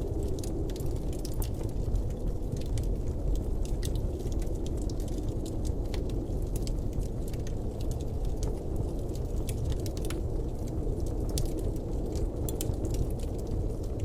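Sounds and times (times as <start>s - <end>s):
blizzard wind rumble: 0.0s - 14.0s
sharp ticks and crackles: 0.0s - 14.0s.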